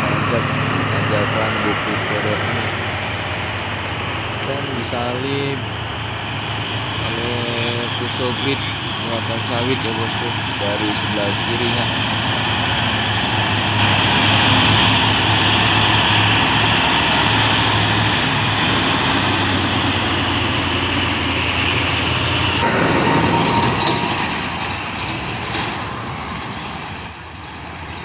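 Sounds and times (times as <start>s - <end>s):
diesel trucks passing: 0.0s - 28.0s.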